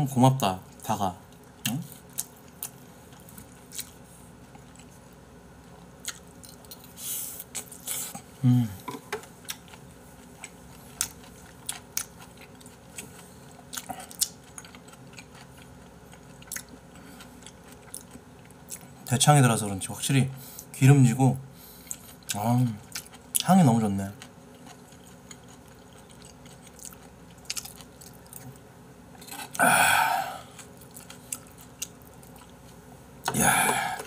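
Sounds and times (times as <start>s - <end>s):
man chewing with smacking: 0.7s - 19.1s, 21.7s - 23.5s, 24.1s - 28.6s, 30.4s - 33.4s.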